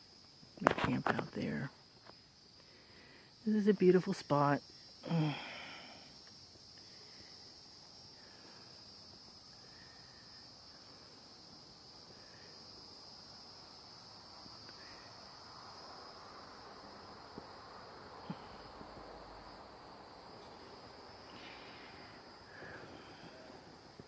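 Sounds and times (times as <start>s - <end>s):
insects buzzing trill: 0.0s - 24.0s.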